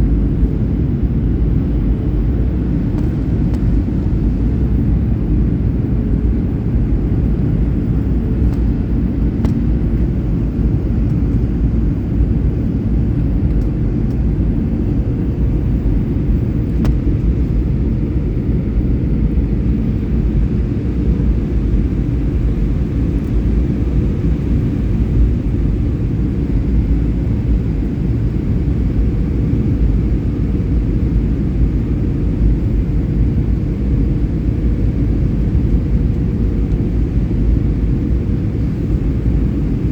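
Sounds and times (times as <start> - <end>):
airliner engine and airflow rumble: 0.0 - 39.9
faint steady hum: 0.0 - 39.9.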